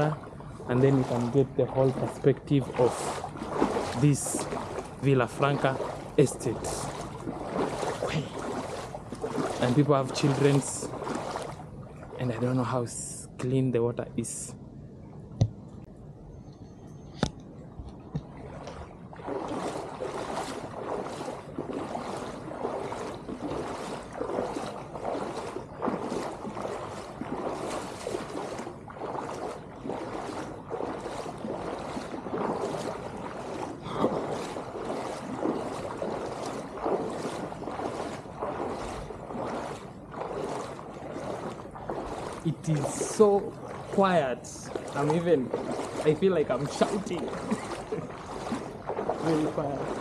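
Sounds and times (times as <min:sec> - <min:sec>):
footsteps splashing through water: 0:00.0 - 0:13.3, 0:17.2 - 0:50.0.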